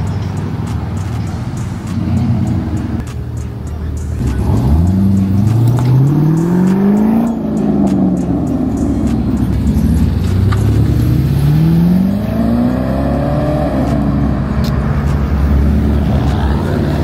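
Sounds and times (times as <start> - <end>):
background music: 0.0 - 17.0
car engine accelerating: 0.0 - 17.0.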